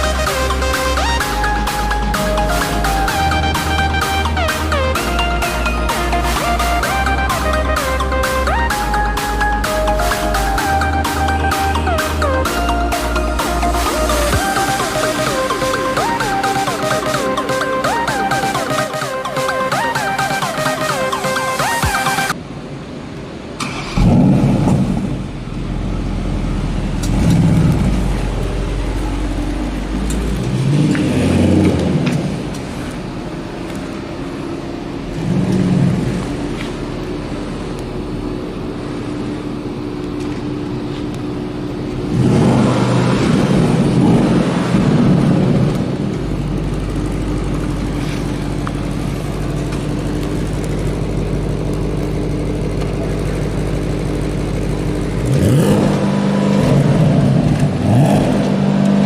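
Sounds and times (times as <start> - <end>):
car engine starting and revving: 0.0 - 22.3, 23.4 - 59.0.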